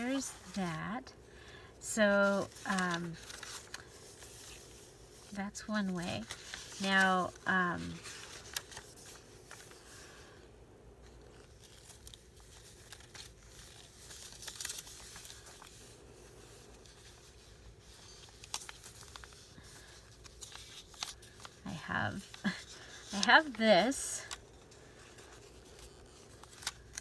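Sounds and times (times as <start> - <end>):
paper rustling and tearing: 2.2 - 10.3, 11.1 - 27.0.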